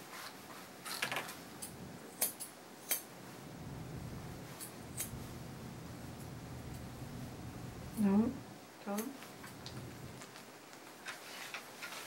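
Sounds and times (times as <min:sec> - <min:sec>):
faint low hum: 0:00.5 - 0:11.1.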